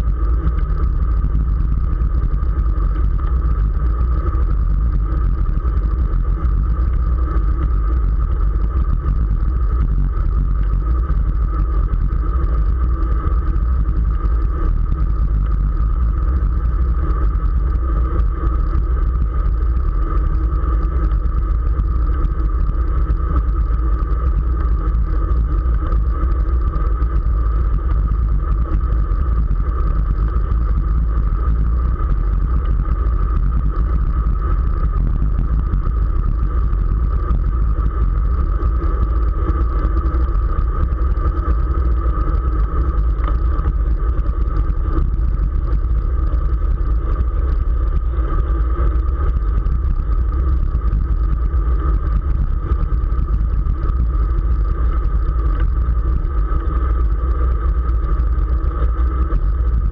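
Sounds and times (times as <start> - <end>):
even hum: 0.0 - 59.9
wind rumble on microphone: 0.0 - 59.9.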